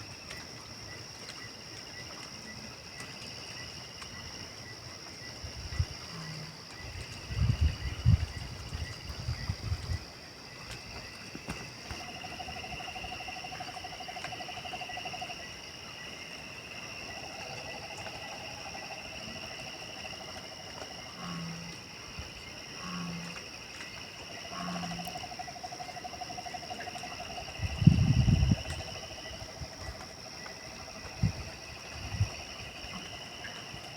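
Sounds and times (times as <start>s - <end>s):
insects and frogs calling: 0.0s - 33.9s.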